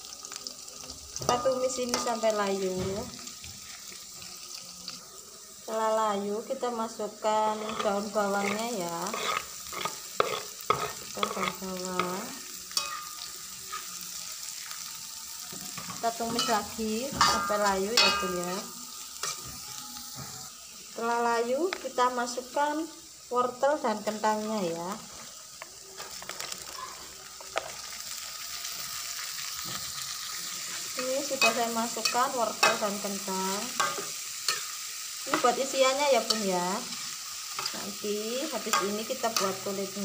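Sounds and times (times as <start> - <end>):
food sizzling in hot oil: 0.0 - 40.0.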